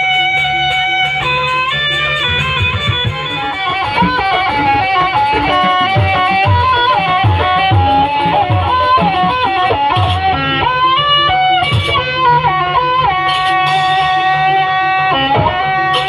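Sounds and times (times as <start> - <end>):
melody instrument long notes: 0.0 - 16.0.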